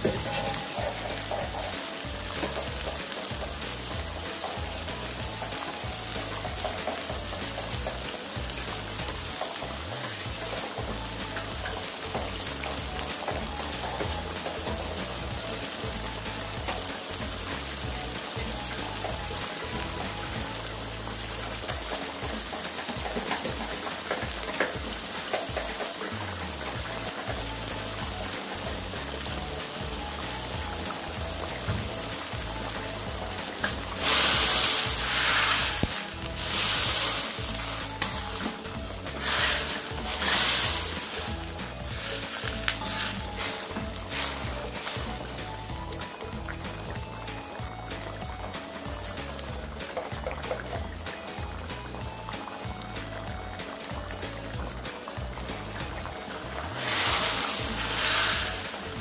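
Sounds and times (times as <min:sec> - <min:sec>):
background music: 0:00.0 - 0:59.0
gravy bubbling in wok: 0:00.0 - 0:59.0.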